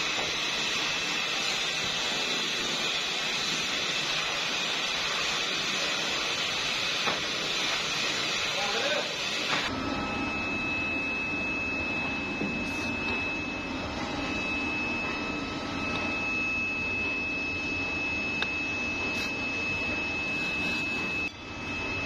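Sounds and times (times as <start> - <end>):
machinery high-pitched whine: 0.0 - 22.0.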